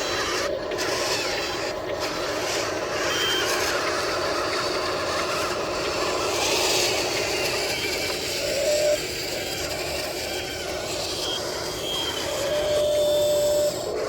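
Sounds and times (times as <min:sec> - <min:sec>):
model excavator motors whirring: 0:00.0 - 0:14.0.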